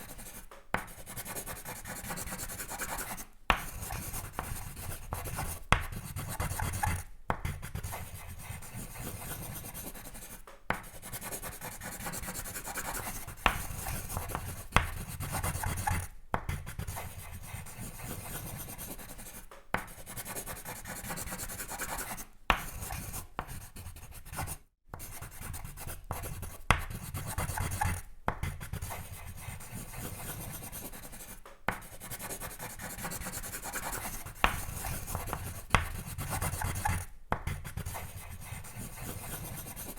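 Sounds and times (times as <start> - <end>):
pencil sketching on paper: 0.0 - 39.9.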